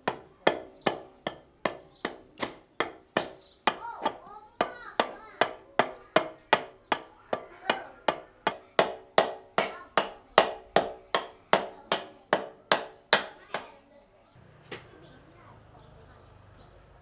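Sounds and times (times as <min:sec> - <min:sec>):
hammer blows on wood: 0:00.0 - 0:13.7.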